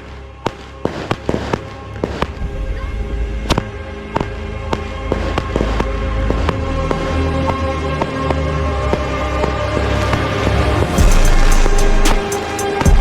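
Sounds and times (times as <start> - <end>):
fireworks bangs: 0.0 - 13.0
music playing: 0.0 - 13.0
low rumble: 1.6 - 12.2.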